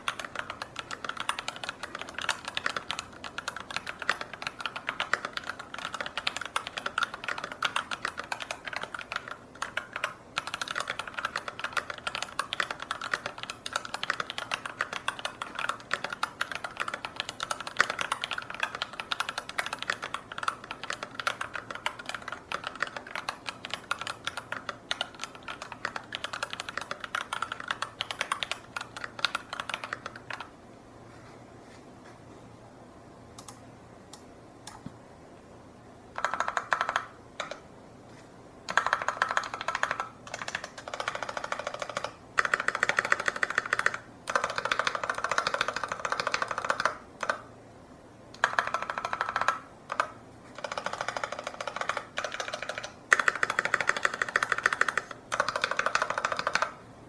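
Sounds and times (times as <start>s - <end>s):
fast typing on mechanical keyboard: 0.0s - 30.5s, 36.1s - 37.6s, 38.7s - 47.5s, 48.3s - 56.8s.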